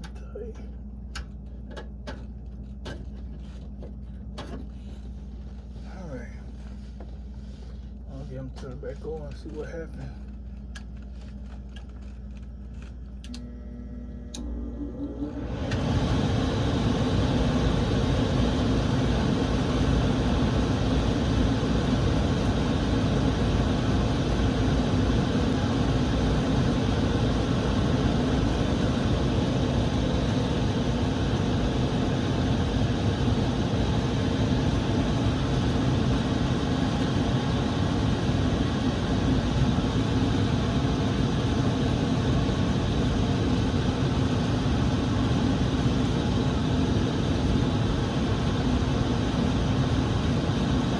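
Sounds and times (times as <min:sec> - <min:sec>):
furnace humming with rushing air: 0:00.0 - 0:50.9.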